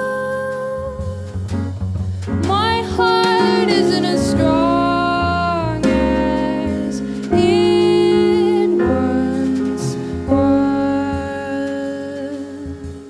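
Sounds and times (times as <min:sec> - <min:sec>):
woman singing: 0:00.0 - 0:01.4, 0:02.4 - 0:13.0
jazz band playing: 0:00.0 - 0:13.0.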